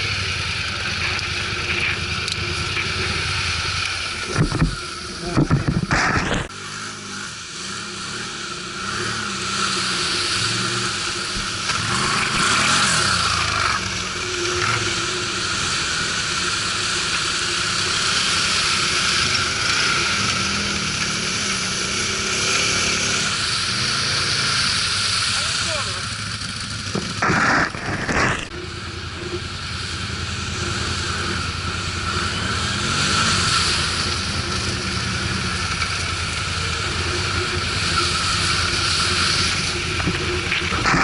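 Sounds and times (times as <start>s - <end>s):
atv engines running: 0.0s - 41.0s
steady rushing noise: 0.0s - 41.0s.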